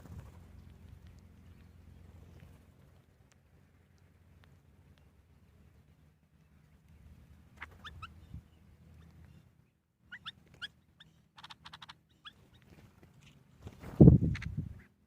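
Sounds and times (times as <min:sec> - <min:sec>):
faint bird calls: 0:00.0 - 0:13.5.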